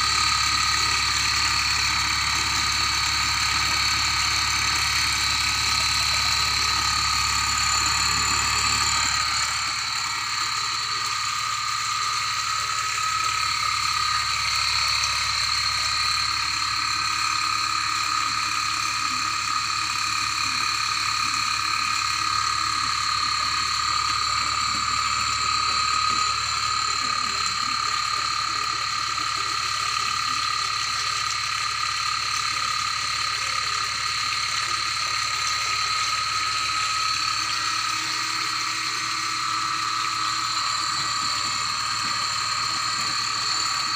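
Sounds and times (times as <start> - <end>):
steady high-pitched tones: 0.0 - 31.8, 33.3 - 43.9
water pump humming: 0.0 - 43.9.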